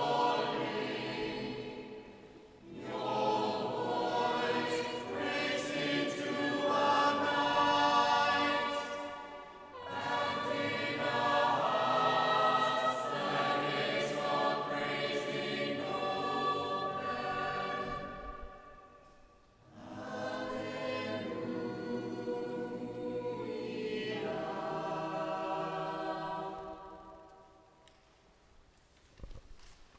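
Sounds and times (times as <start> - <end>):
choir singing a cappella: 0.0 - 27.8.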